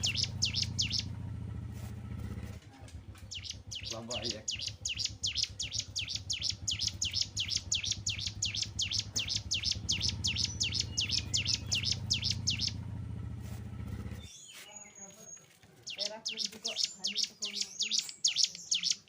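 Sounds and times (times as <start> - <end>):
bird chirping rapidly: 0.0 - 1.3, 3.2 - 19.0.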